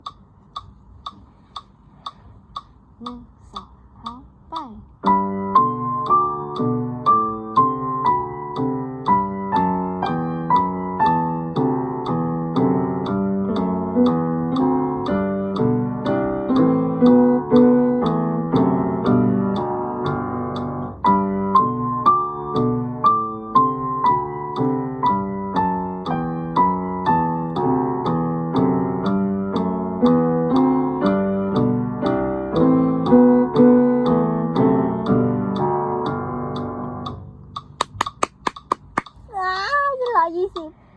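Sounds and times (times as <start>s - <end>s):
light beat clicks: 0.0s - 40.8s
electric keyboard piano piece: 5.0s - 39.0s.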